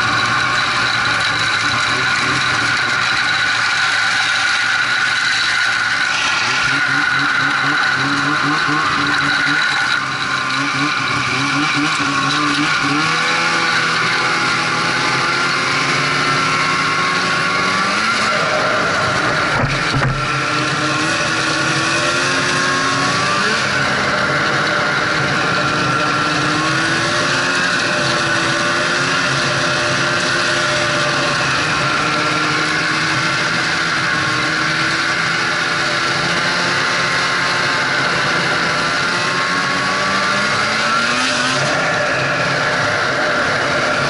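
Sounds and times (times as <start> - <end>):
snowmobile engine running: 0.0 - 44.0
track and wind noise: 0.0 - 44.0.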